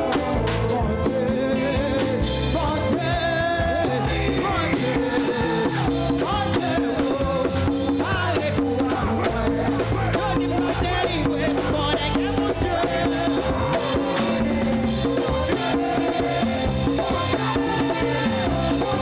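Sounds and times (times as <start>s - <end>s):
bass: 0.0s - 19.0s
drum beat: 0.0s - 19.0s
person singing: 0.0s - 19.0s.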